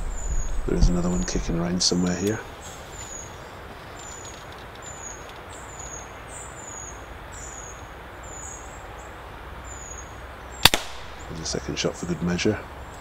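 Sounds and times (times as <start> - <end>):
small bird calling: 0.0 - 11.6
outdoor background hiss: 0.0 - 13.0.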